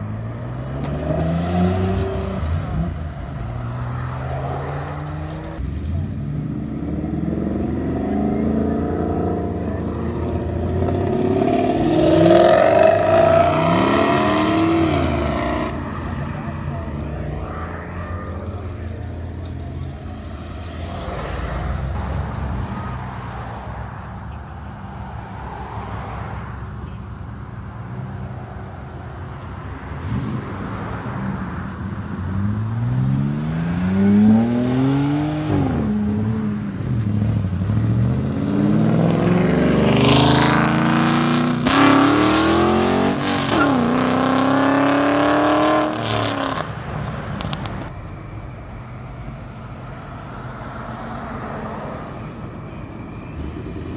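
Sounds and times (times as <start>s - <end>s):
car engines accelerating: 0.0s - 53.9s
road traffic: 0.0s - 53.9s.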